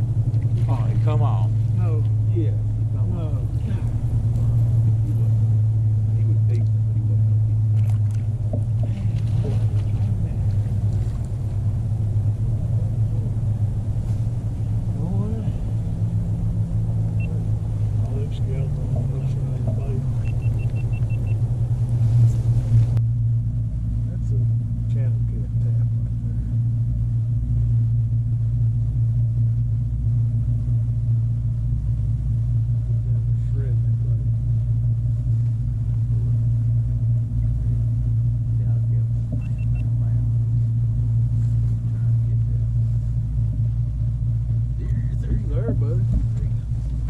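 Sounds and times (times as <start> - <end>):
low boat engine hum: 0.0 - 47.0.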